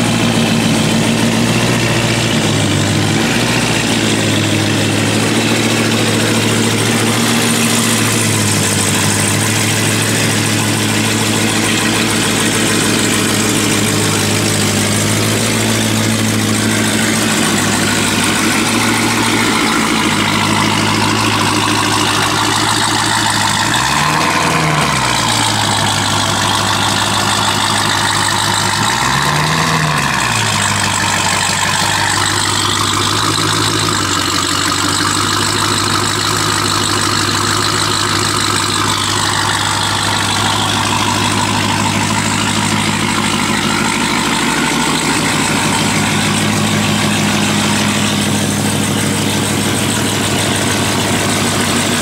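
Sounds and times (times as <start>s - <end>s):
car engine idling and revving: 0.0s - 52.0s.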